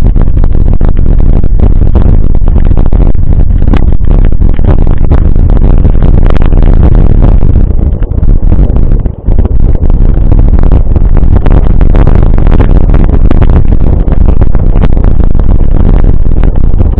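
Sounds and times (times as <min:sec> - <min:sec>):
wind rumble on microphone: 0:00.0 - 0:16.9.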